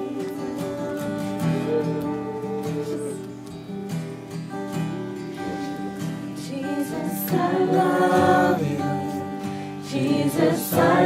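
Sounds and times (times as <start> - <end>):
acoustic guitar strumming: 0.0 - 11.0
soft worship music: 0.0 - 11.0.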